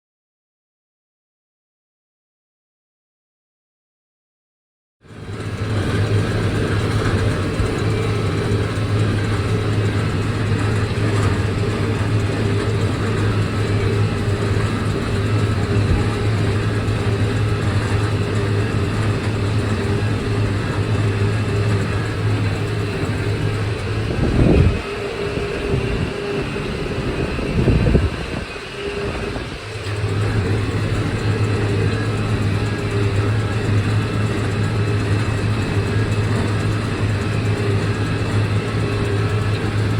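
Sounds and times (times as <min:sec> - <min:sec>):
tractor engine droning: 0:05.1 - 0:39.9.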